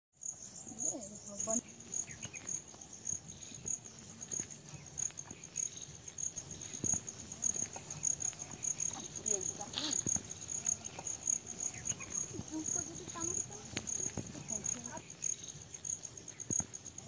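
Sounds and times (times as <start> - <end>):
insects trilling: 0.2 - 17.0.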